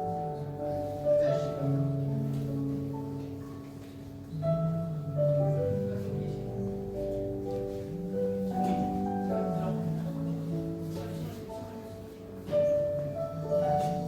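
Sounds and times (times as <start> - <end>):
electronic keyboard playing hymn: 0.0 - 14.0.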